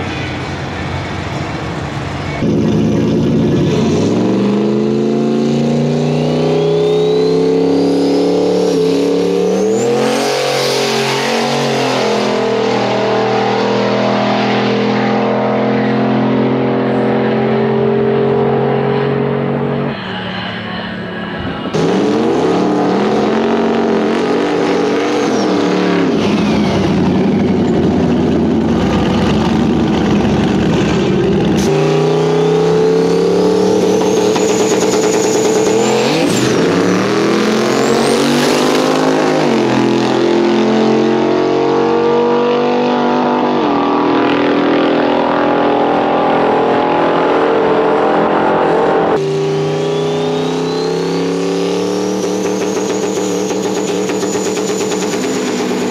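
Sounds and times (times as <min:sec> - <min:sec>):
drag racing cars accelerating: 0:00.0 - 0:55.9.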